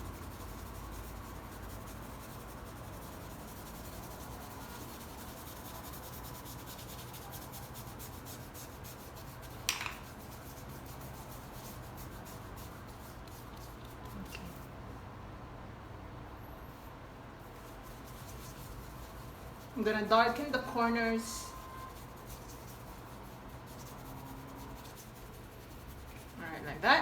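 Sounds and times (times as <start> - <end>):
paintbrush scrubbing: 0.0 - 14.8, 16.7 - 27.0
brush scrape: 0.1 - 14.7, 16.7 - 27.0.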